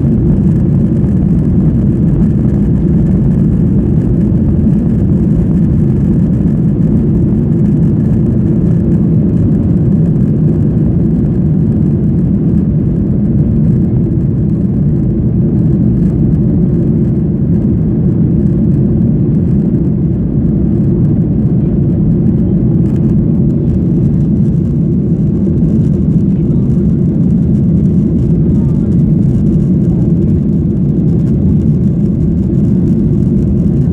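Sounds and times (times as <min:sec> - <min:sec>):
jet cabin engine rumble: 0:00.0 - 0:33.9.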